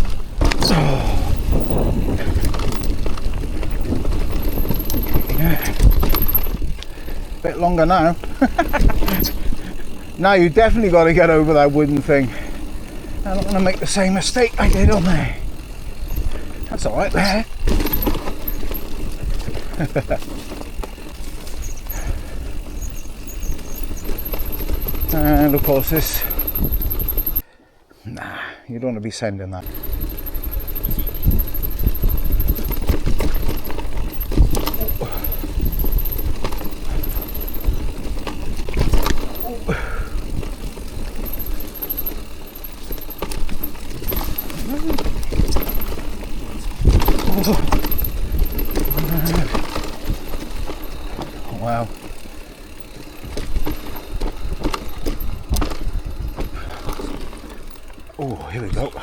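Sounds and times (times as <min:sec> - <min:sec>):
bike knocking over bumps: 0:00.0 - 0:07.2, 0:07.8 - 0:27.4, 0:29.6 - 0:58.1
bike chain and frame rattling: 0:00.0 - 0:27.4, 0:29.6 - 0:59.0
bike tyres rumbling on dirt: 0:00.0 - 0:27.4, 0:29.6 - 0:59.0.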